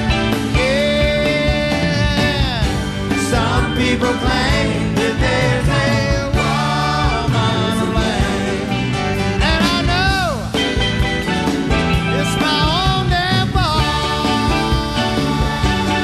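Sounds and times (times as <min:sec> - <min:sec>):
drums: 0:00.0 - 0:16.0
electric guitar: 0:00.0 - 0:16.0
man singing: 0:00.4 - 0:08.4, 0:09.2 - 0:10.5, 0:12.1 - 0:16.0.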